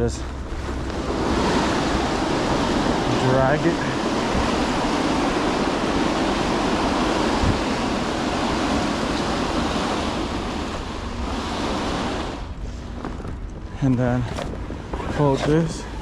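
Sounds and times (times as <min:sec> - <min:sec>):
tarp dragging along trailer: 0:00.0 - 0:16.0.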